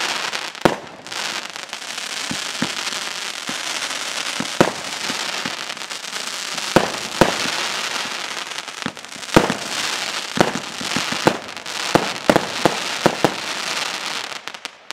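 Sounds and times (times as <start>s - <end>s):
fireworks bangs: 0.0s - 14.9s
fireworks hissing and crackling: 0.0s - 14.9s.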